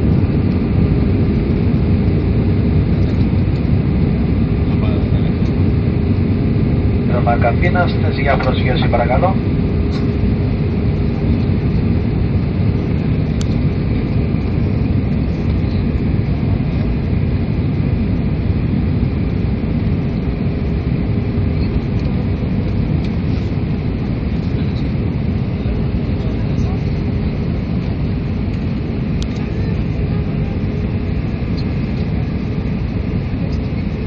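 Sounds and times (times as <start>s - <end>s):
faint steady hum: 0.0s - 34.0s
jet engines roaring in cabin: 0.0s - 34.0s.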